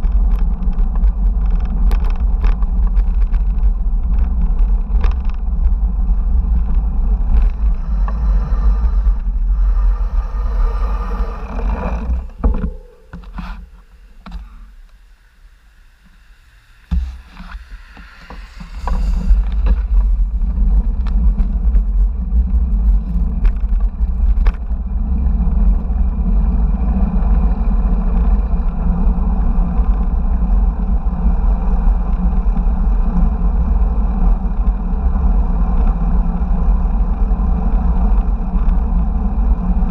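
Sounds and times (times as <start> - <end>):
wind buffeting microphone: 0.0 - 14.5, 16.9 - 39.9
road and traffic noise: 0.0 - 39.9.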